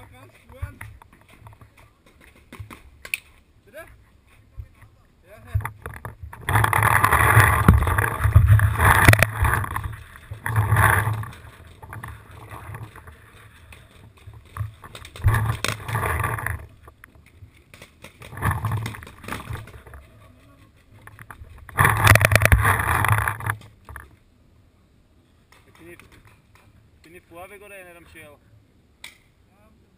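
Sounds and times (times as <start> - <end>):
camera rubbing noise: 0.0 - 24.1.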